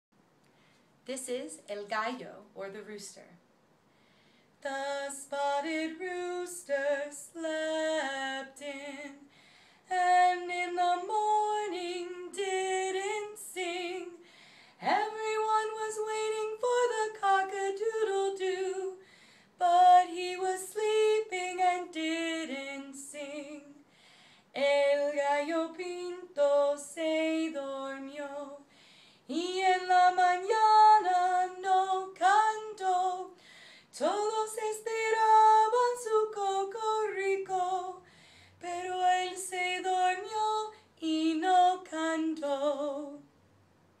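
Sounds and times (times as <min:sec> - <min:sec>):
woman singing unaccompanied: 0:04.6 - 0:23.9, 0:24.5 - 0:28.7, 0:29.3 - 0:43.3.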